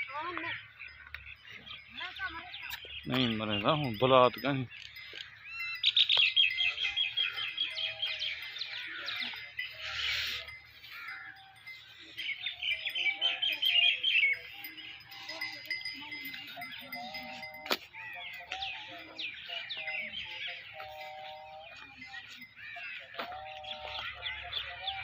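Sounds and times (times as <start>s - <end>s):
small birds trilling: 0.0s - 25.0s.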